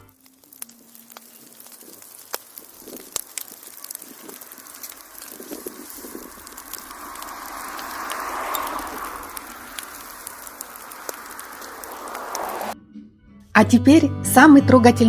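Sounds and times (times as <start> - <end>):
log fire crackling: 0.0 - 12.8.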